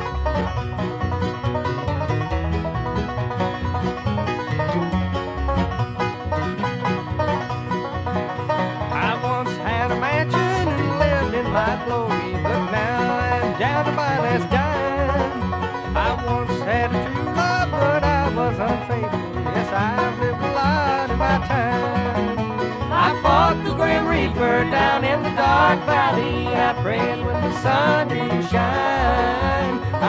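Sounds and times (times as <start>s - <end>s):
banjo: 0.0s - 30.0s
bluegrass band playing: 0.0s - 30.0s.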